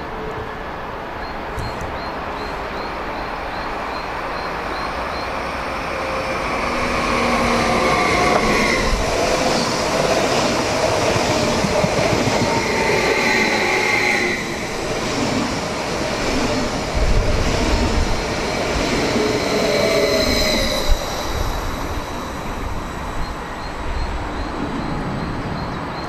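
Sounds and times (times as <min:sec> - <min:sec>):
train passing: 0:00.0 - 0:26.0
wheel-on-rail noise: 0:04.8 - 0:26.0.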